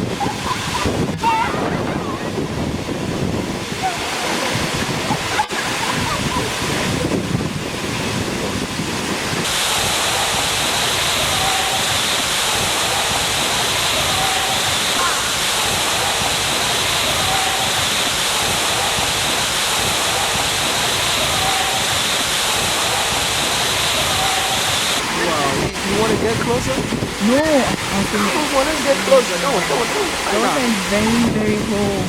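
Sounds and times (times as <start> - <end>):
waterfall rushing into pool: 0.0 - 32.0.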